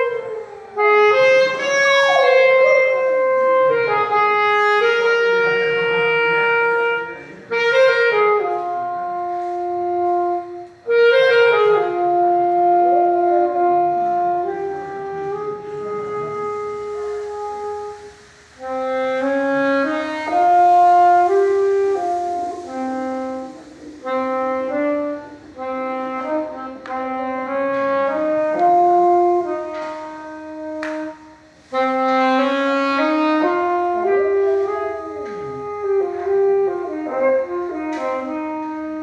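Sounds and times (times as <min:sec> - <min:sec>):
saxophone playing slow melody: 0:00.0 - 0:39.0.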